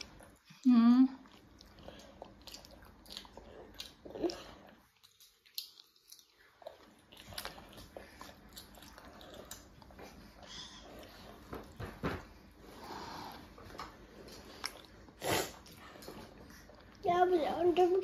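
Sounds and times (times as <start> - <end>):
child chewing food: 0.0 - 18.0.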